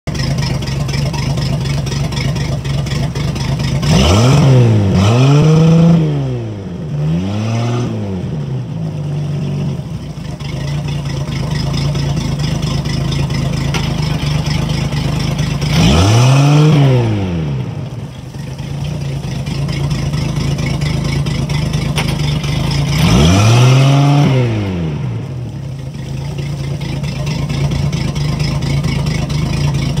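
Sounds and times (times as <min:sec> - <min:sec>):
water splashing: 0:00.1 - 0:07.2, 0:08.0 - 0:30.0
boat engine idling and revving: 0:00.1 - 0:30.0.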